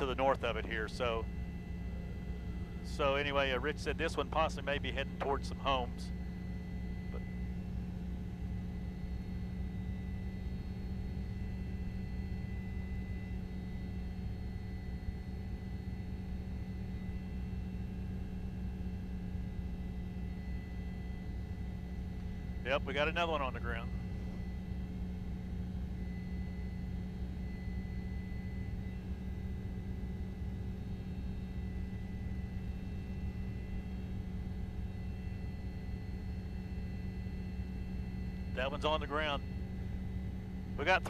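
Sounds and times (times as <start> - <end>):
vehicle cabin rumble and hum: 0.0 - 41.0.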